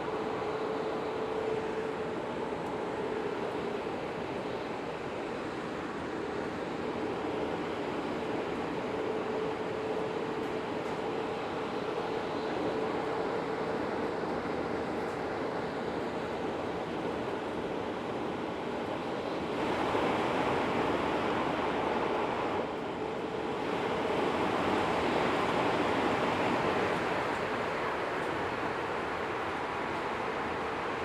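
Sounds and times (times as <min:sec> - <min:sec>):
high-speed train rushing roar: 0:00.0 - 0:31.0.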